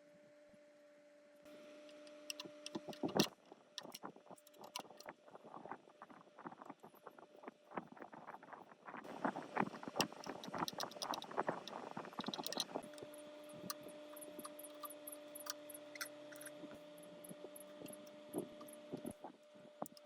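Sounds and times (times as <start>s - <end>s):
steady hum: 1.5s - 20.0s.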